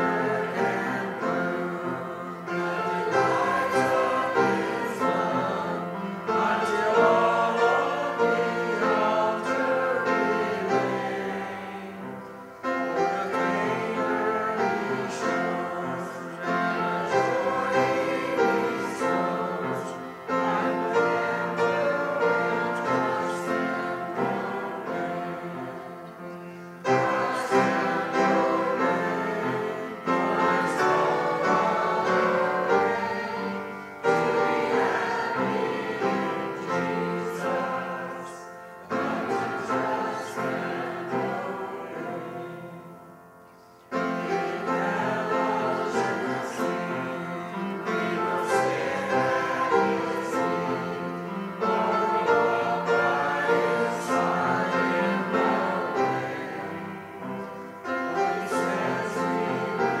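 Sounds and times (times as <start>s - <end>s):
congregation singing a hymn: 0.0s - 60.0s
keyboard accompaniment: 0.0s - 60.0s.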